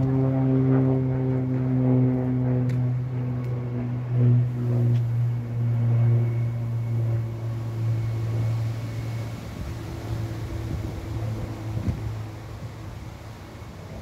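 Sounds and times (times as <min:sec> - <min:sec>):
barge engine humming: 0:00.0 - 0:14.0.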